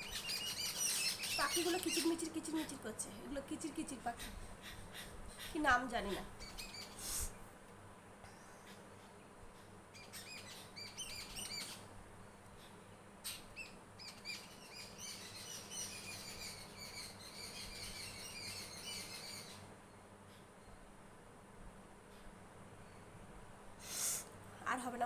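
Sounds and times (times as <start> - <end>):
small birds chirping: 0.0 - 7.6, 8.2 - 21.0.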